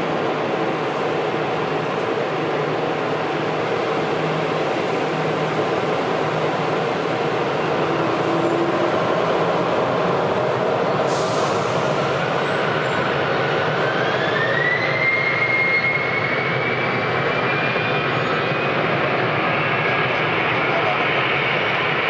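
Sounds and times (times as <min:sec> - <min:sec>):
jet engines spooling up: 0:00.2 - 0:22.0.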